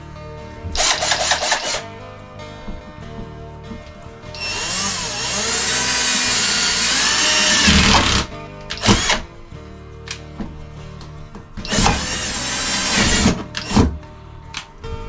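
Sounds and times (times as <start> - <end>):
power drill boring: 0.6 - 2.0, 2.6 - 10.2, 11.6 - 15.0.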